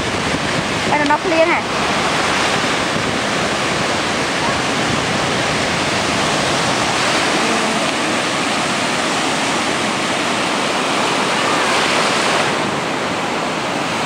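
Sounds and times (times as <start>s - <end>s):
waves washing up the shore: 0.0s - 14.0s.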